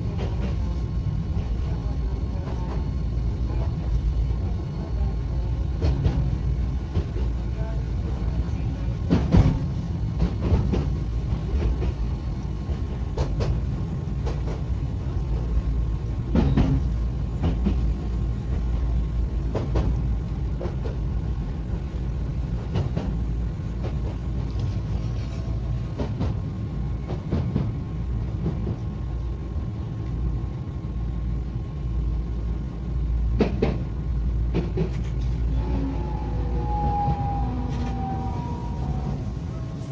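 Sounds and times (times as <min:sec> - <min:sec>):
wheels clacking on track: 0:00.0 - 0:30.7, 0:33.2 - 0:39.9
train low rumble: 0:00.0 - 0:39.9.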